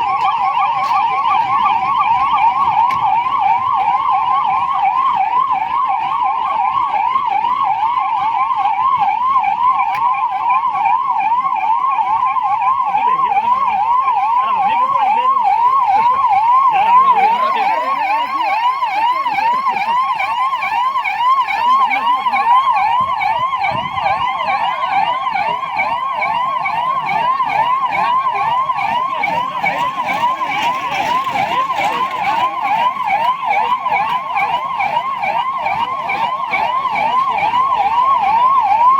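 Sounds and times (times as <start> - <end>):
siren yelping: 0.0 - 38.9.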